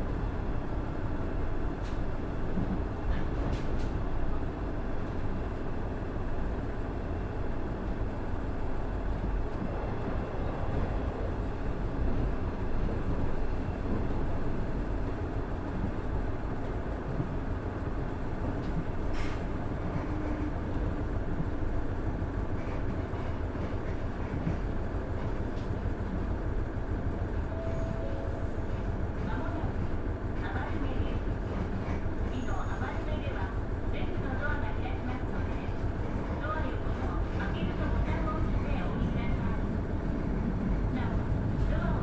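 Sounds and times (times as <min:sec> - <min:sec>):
railcar engine and wheels rumbling: 0:00.0 - 0:42.0.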